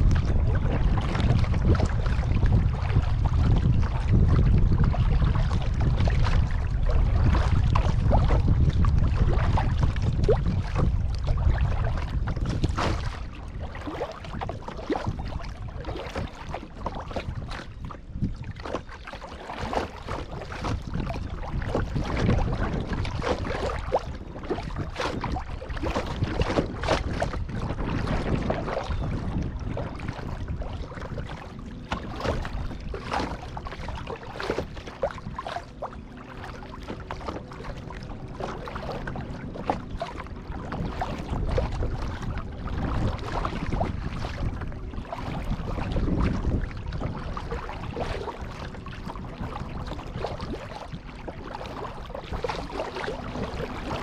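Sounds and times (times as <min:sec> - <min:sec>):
paddle splashing in water: 0:00.0 - 0:54.0
water dripping and lapping: 0:00.0 - 0:54.0
wind rumble on microphone: 0:00.0 - 0:54.0.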